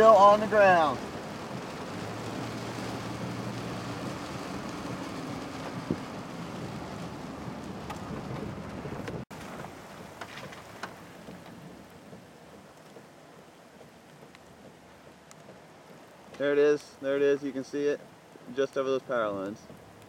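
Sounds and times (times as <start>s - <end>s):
steady rain: 0.0s - 20.0s
wind: 0.0s - 20.0s.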